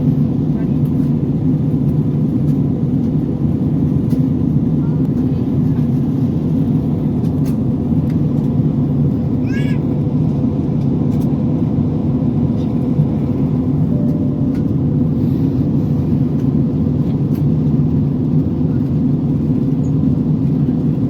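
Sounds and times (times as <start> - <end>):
airliner cabin roar: 0.0 - 21.0.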